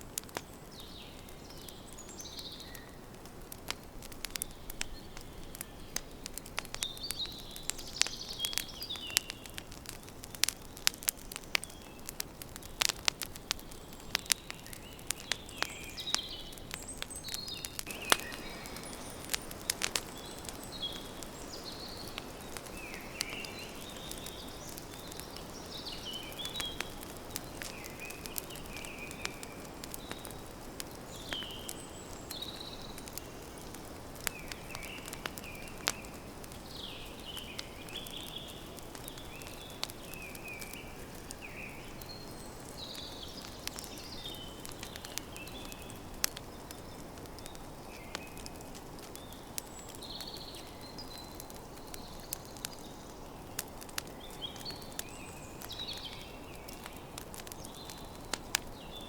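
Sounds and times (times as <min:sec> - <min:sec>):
campfire crackling and popping: 0:00.0 - 0:59.0
small birds chirping: 0:00.0 - 0:59.0.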